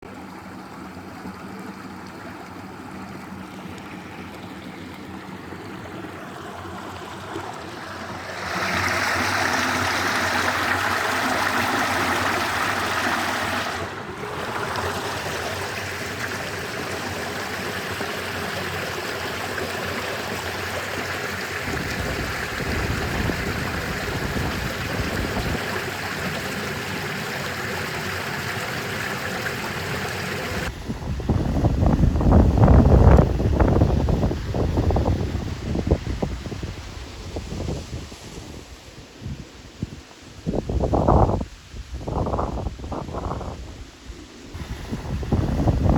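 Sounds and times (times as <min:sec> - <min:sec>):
stream water rushing: 0:00.0 - 0:41.4, 0:44.2 - 0:45.9.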